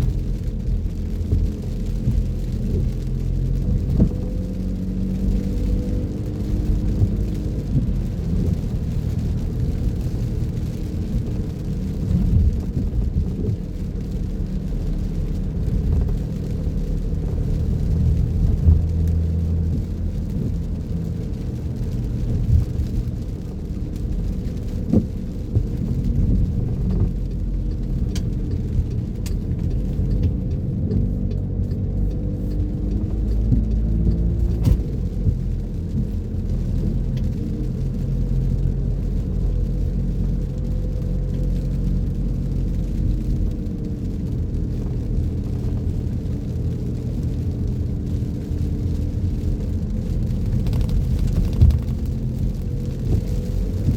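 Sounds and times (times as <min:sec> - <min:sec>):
car engine and tyres on wet road: 0:00.0 - 0:53.9.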